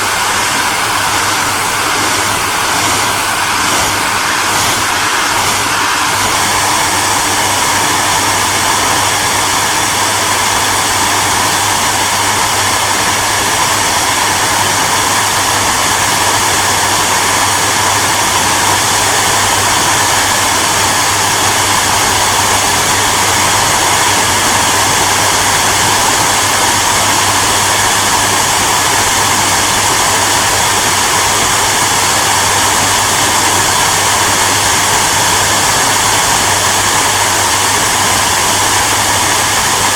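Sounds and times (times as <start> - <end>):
hairdryer rushing air: 0.0 - 39.9.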